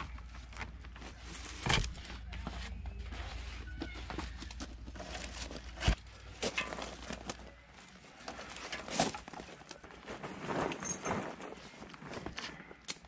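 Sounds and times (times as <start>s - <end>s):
plastic sheeting and rope rustling: 0.0s - 12.6s.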